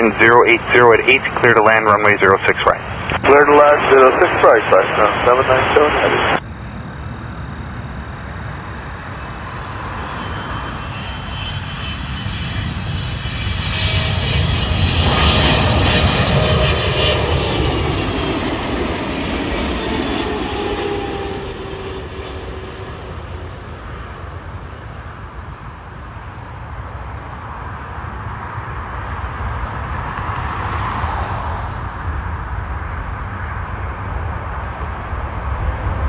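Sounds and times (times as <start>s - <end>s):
jet engines whining and rumbling: 0.0s - 36.0s.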